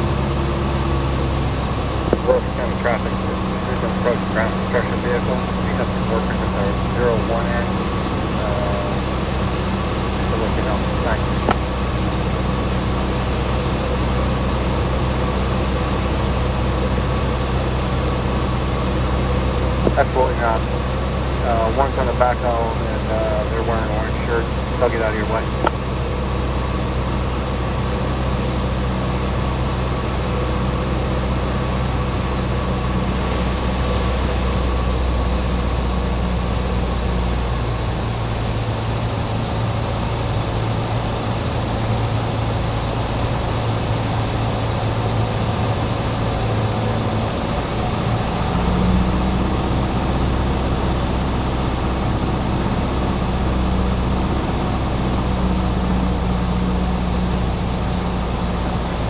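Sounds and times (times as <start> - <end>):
aircraft engine droning in cabin: 0.0 - 59.0.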